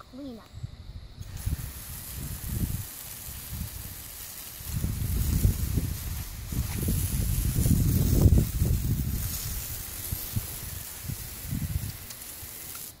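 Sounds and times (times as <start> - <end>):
water spraying from hose nozzle: 1.2 - 13.0.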